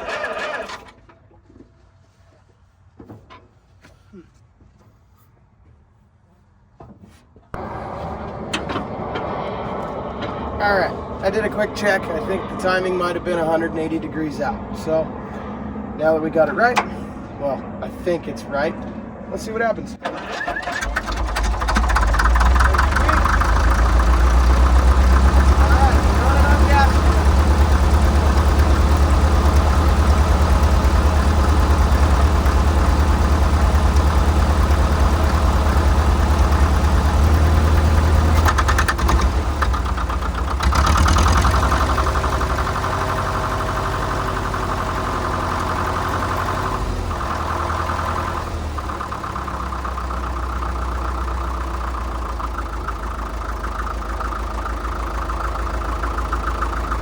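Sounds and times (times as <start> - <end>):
diesel engine running: 7.6 - 57.0.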